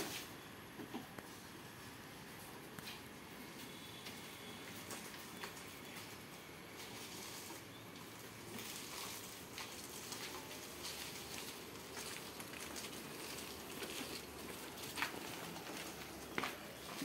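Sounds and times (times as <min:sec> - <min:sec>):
sandalled footsteps on paving: 0:02.4 - 0:17.0.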